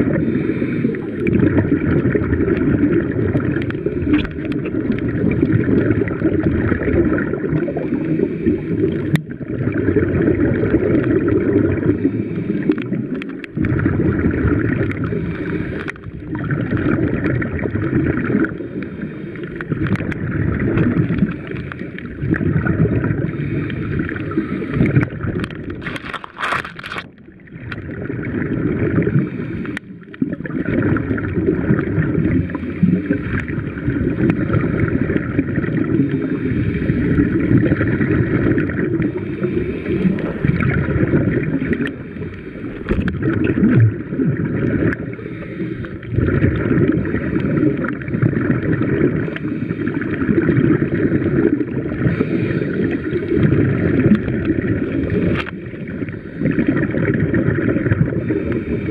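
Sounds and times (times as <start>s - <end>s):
muffled underwater water wash: 0.0s - 58.9s.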